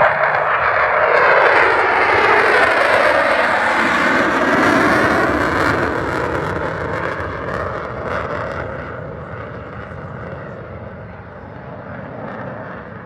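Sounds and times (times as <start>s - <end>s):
fighter jet passing by: 0.0s - 13.0s.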